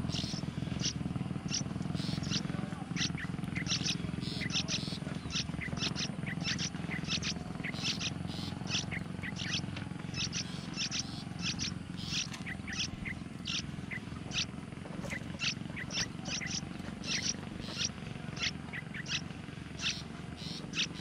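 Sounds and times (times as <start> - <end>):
nestlings begging squeaks: 0.0 - 21.0
steady low hum: 0.0 - 21.0.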